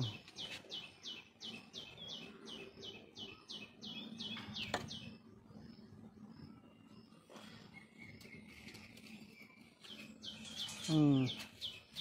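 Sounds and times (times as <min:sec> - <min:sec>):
bird chirping rapidly: 0:00.0 - 0:12.0.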